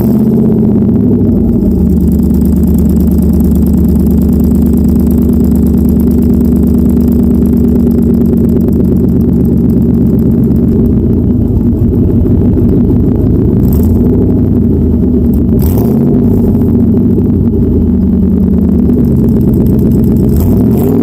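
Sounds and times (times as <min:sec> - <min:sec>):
truck engine deep drone: 0:00.0 - 0:21.0.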